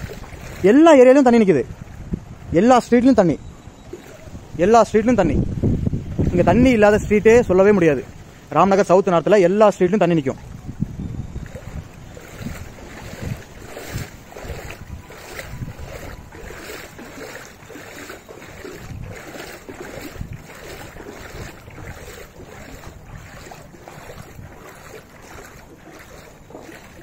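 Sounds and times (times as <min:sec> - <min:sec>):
wading through water: 0:00.0 - 0:27.0
wind rumbling on microphone: 0:00.0 - 0:27.0.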